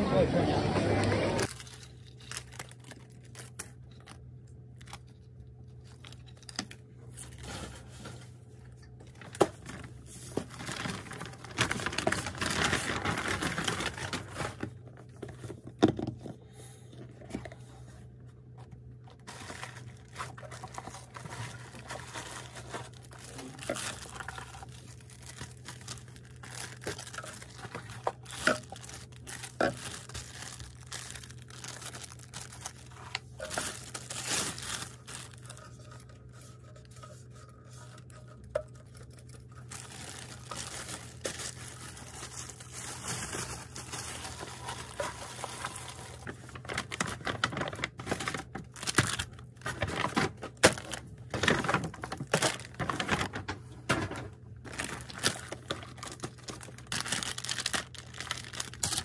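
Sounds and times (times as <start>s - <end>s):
plastic wrap crinkling: 1.4s - 8.1s, 9.0s - 15.7s, 19.2s - 59.0s.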